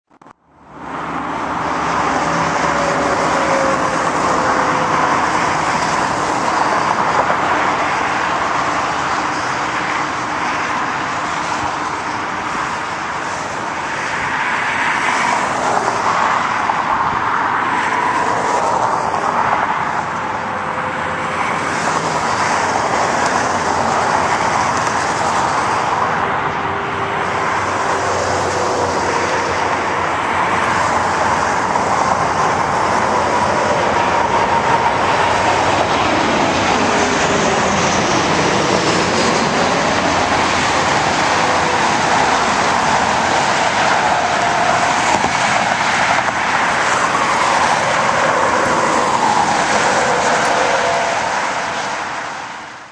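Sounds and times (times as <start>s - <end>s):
road traffic: 0.0s - 52.9s
jet engines of landing plane: 0.6s - 52.9s.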